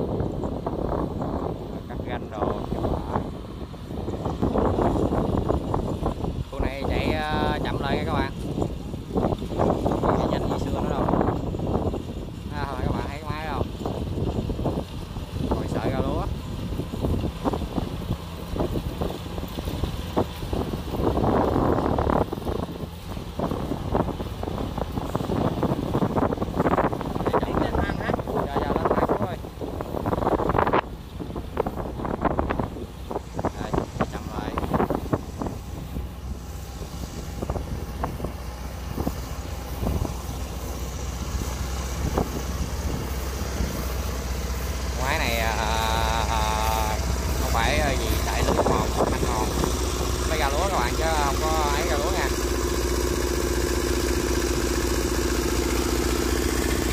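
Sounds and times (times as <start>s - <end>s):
combine harvester diesel engine: 0.0s - 56.9s.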